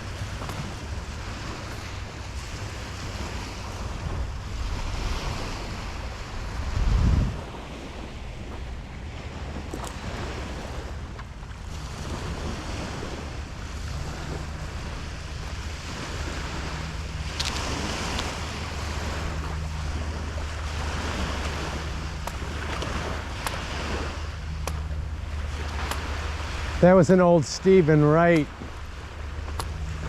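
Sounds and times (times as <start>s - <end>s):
ocean surf breaking: 0.0s - 30.0s
wind rumbling on microphone: 0.0s - 30.0s.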